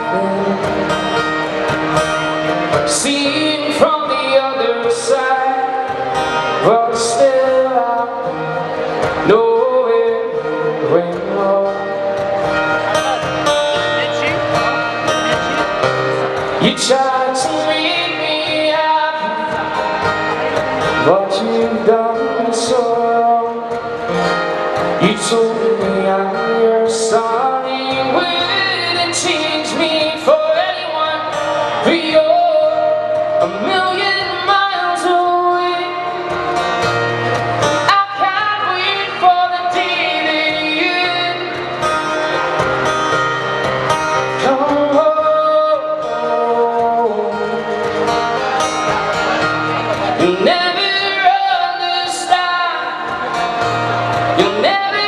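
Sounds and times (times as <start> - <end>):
man singing: 0.0 - 14.9, 16.3 - 42.6, 44.2 - 55.0
acoustic guitar: 0.0 - 55.0.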